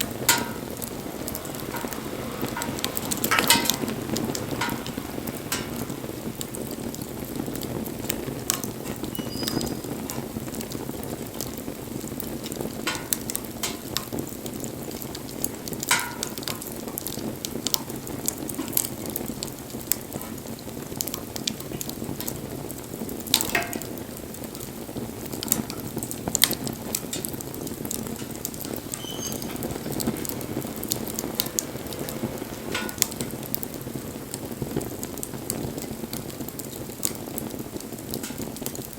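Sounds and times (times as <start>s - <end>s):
burning wood popping: 0.0s - 38.9s
campfire crackling and hissing: 0.0s - 38.9s.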